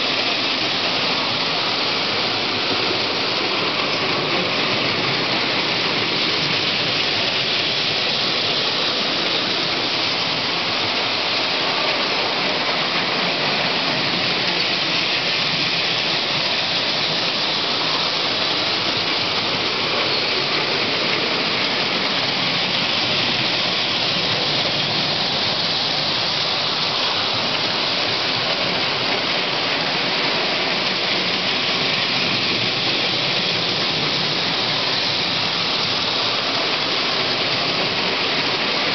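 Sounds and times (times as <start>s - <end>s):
toy train wheels on tin rails: 0.0s - 38.9s.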